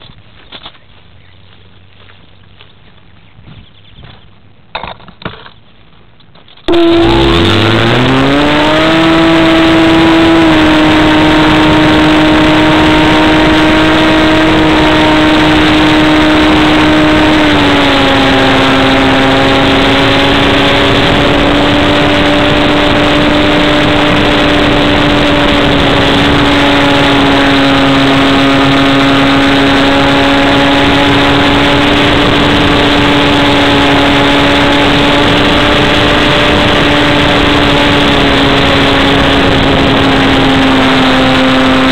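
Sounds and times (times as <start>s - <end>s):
model plane motor running: 6.7s - 41.9s.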